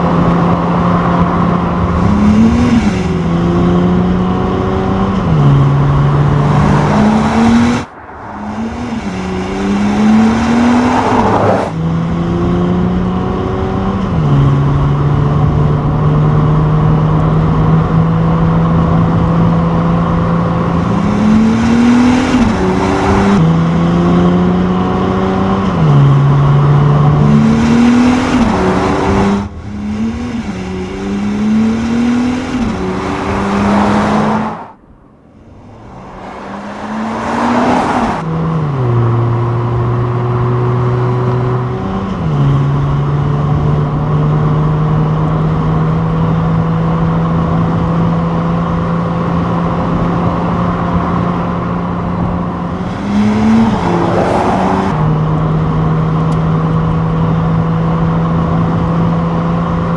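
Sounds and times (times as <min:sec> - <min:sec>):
car engine accelerating through gears: 0:00.0 - 0:34.8, 0:35.4 - 0:59.9.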